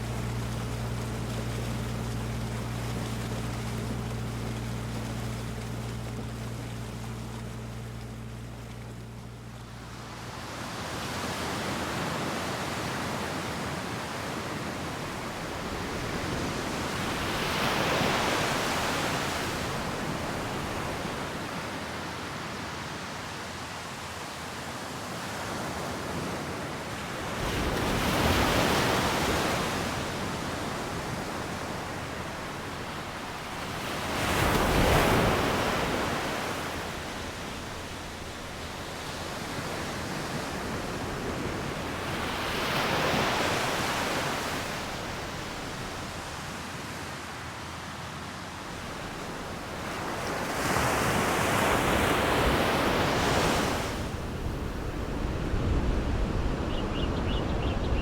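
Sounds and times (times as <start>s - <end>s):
sea waves breaking on beach: 0.0s - 23.3s, 25.1s - 47.0s, 48.7s - 58.0s.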